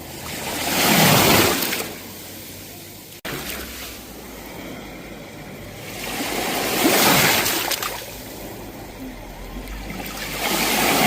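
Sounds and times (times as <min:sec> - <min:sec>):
sea waves washing onto shore: 0:00.0 - 0:11.0.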